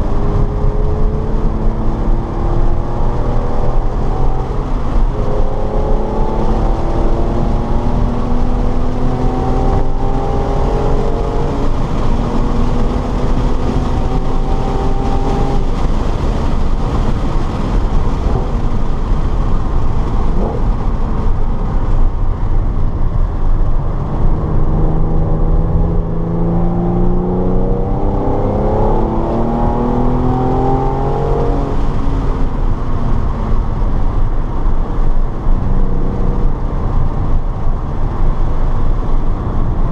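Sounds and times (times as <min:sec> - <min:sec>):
car engine accelerating: 0:00.0 - 0:39.9
road and wind rumble: 0:00.0 - 0:39.9.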